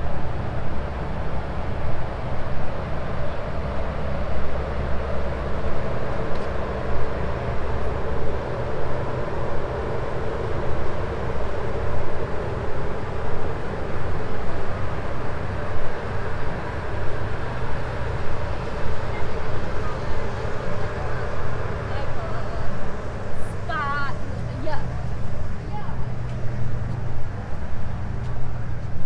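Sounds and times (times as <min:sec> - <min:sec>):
city traffic: 0:00.0 - 0:29.0
low engine drone: 0:00.0 - 0:29.0.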